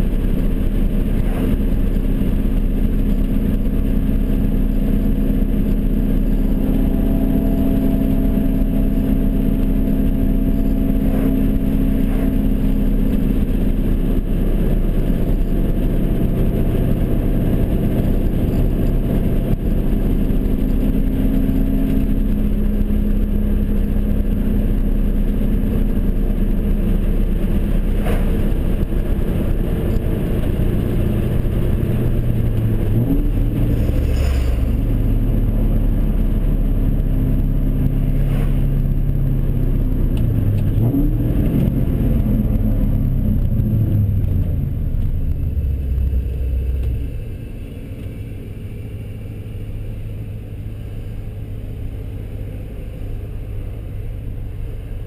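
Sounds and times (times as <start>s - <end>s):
deep exhaust drone: 0.0s - 55.0s.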